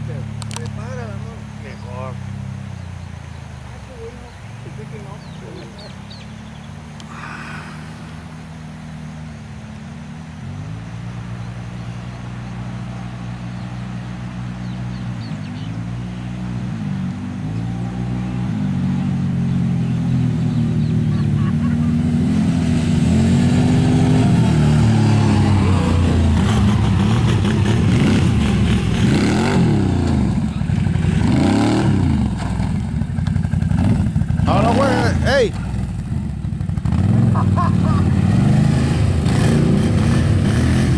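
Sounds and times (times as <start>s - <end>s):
motorbike engine revving: 4.2s - 40.9s.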